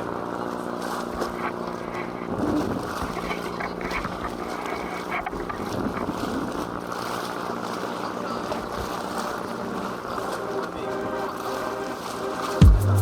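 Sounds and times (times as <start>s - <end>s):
steady low hum: 0.0s - 13.0s
water around a boat: 0.0s - 13.0s.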